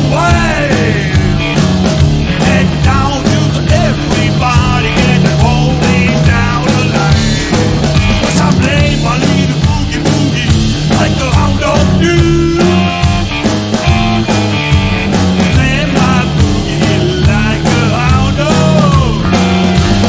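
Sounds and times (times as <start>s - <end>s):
drum kit beat: 0.0s - 20.0s
electric bass: 0.0s - 20.0s
electric guitar bending notes: 0.0s - 20.0s.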